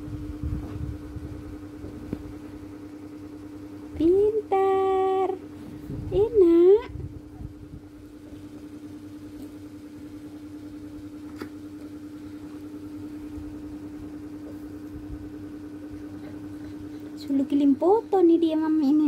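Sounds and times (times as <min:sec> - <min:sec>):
pulsing machine hum: 0:00.0 - 0:19.0.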